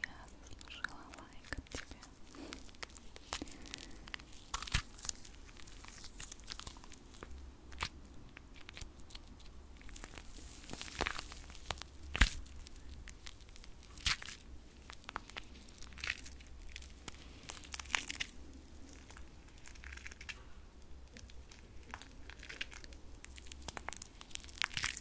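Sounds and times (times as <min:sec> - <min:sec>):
crisp crackling clicks: 0:00.0 - 0:25.0.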